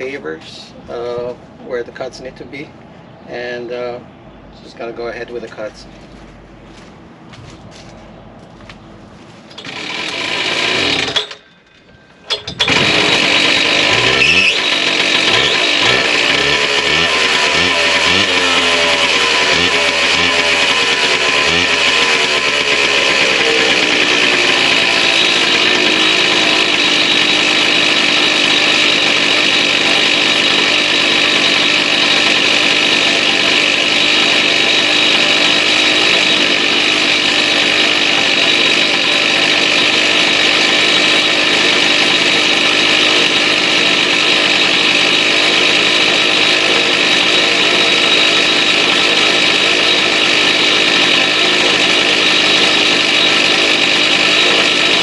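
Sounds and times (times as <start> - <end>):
concrete saw cutting: 9.5 - 11.6, 12.3 - 55.0.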